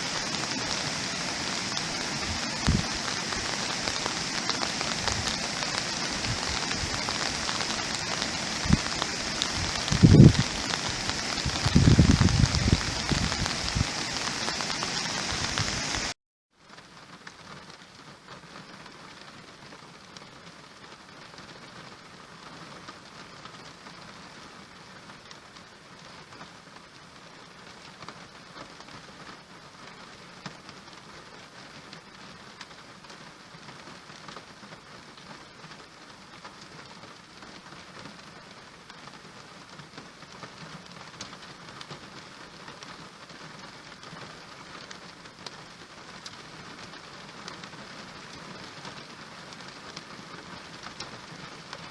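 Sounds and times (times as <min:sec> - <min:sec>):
rain drops ticking: 0:00.0 - 0:51.9
steady rain on a surface: 0:00.0 - 0:51.9.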